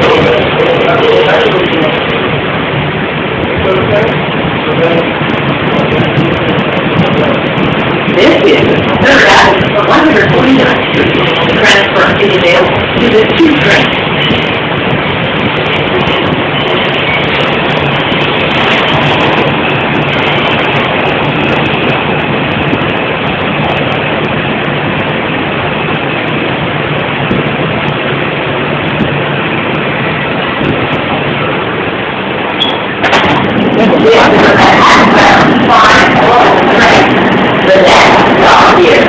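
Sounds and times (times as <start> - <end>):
subway wheels rumbling on track: 0.0 - 39.0.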